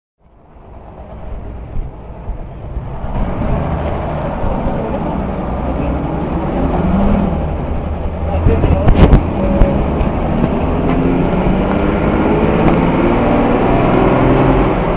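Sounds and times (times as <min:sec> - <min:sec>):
bus diesel engine rumbling: 0:00.2 - 0:14.9.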